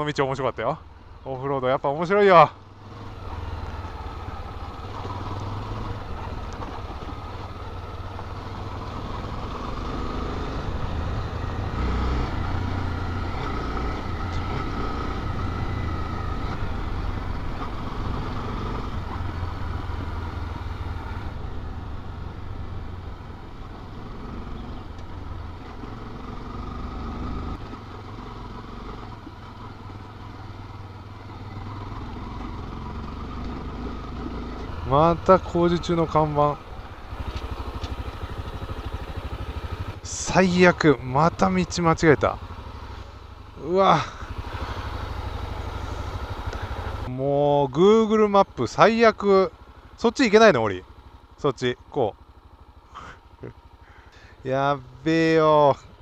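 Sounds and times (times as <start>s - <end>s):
motorcycle riding on gravel: 1.9s - 56.0s.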